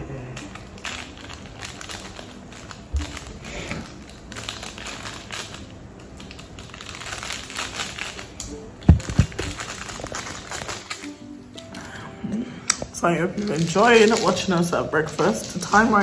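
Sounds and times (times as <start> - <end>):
packet crinkling: 0.3 - 11.9, 13.2 - 16.0.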